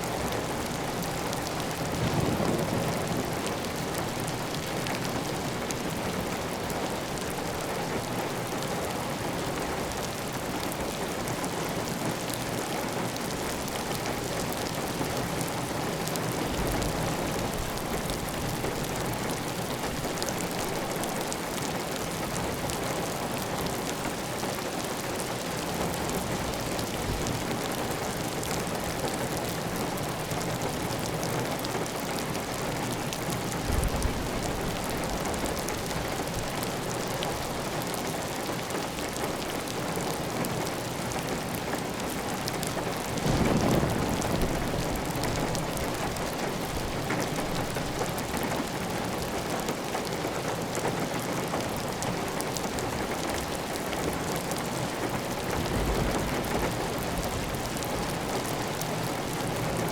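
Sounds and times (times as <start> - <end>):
heavy rain on a tile roof: 0.0 - 59.9.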